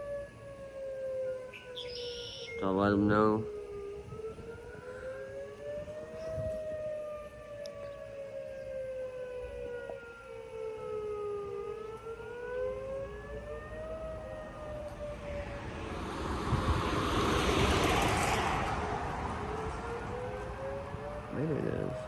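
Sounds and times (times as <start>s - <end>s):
warning sirens wailing: 0.0s - 22.0s.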